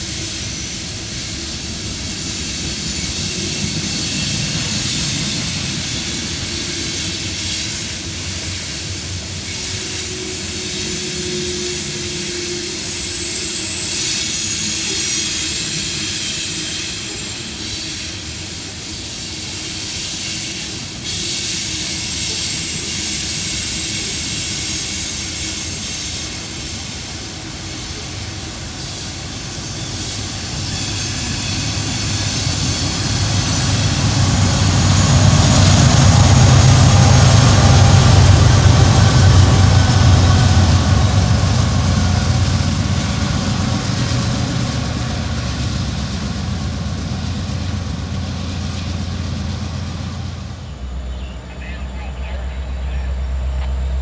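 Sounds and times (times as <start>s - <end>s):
diesel locomotive engines rumbling: 0.0s - 54.0s
train wheels whining: 0.0s - 54.0s.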